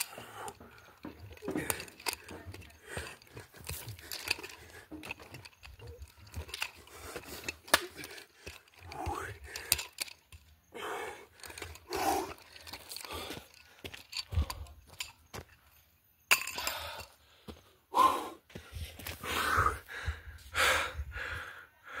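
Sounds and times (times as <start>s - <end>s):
man breathing hard: 0.0s - 14.9s, 16.5s - 22.0s.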